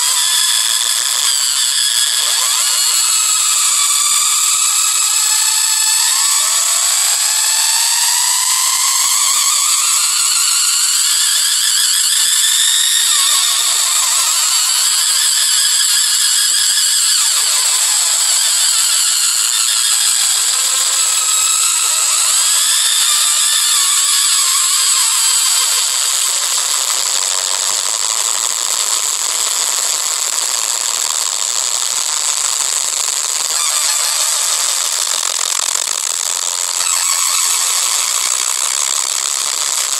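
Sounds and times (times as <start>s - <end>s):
high-pitched squealing noise music: 0.0s - 39.9s.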